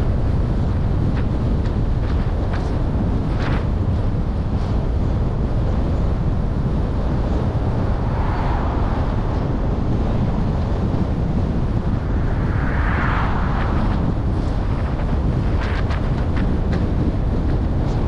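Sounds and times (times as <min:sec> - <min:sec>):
car road noise: 0:00.0 - 0:18.0
wind on microphone: 0:00.0 - 0:18.0.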